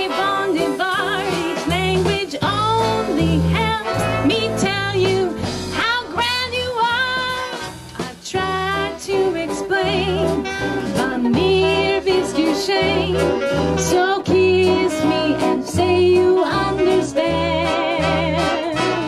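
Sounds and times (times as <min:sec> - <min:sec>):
bass line: 0:00.0 - 0:19.0
swing band music: 0:00.0 - 0:19.0
woman singing: 0:00.0 - 0:19.0.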